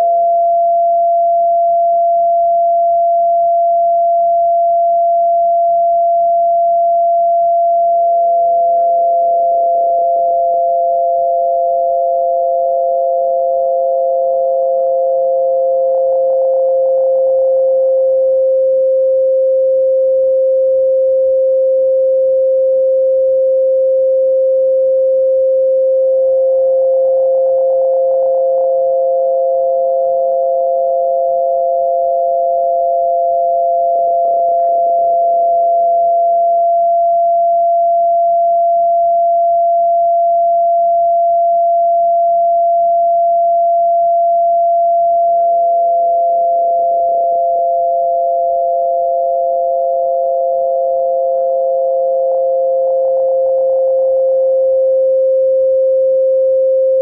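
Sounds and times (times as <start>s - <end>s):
higher pure tone: 0.0s - 57.0s
lower pure tone: 0.0s - 57.0s.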